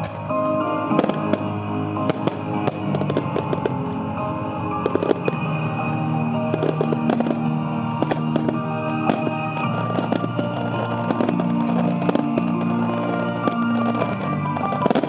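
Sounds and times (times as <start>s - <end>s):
fireworks bursting with bangs: 0.0s - 15.0s
music with long held notes: 0.0s - 15.0s.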